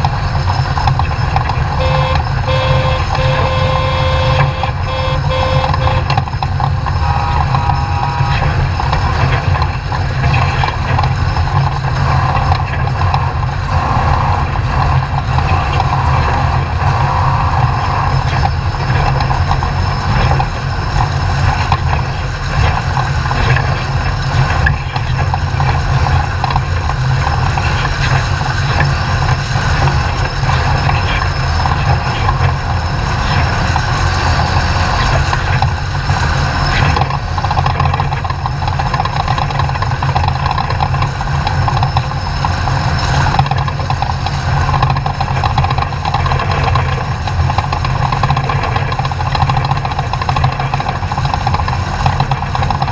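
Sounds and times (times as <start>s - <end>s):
race truck engine running: 0.0s - 52.9s.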